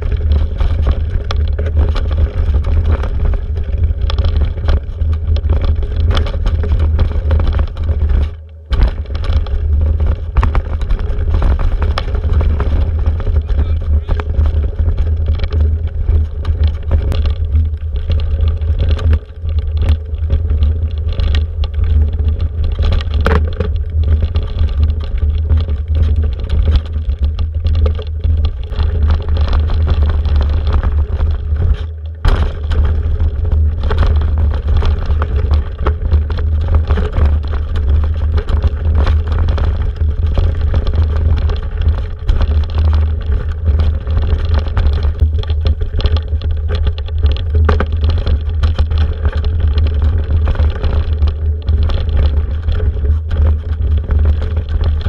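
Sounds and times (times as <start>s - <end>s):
bike rattling over ground: 0.0s - 55.0s
wind rumble on microphone: 0.0s - 55.0s.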